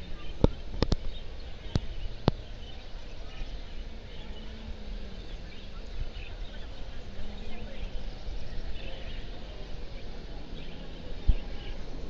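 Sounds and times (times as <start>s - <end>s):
hall hubbub: 0.0s - 12.0s.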